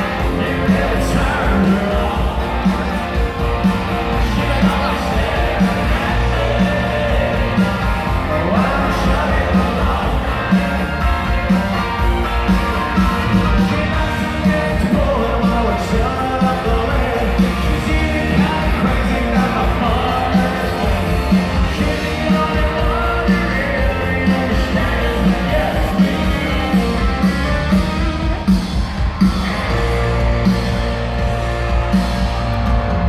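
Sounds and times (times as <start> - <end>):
live country band with singing: 0.0 - 33.0
steady drum beat: 0.0 - 33.0.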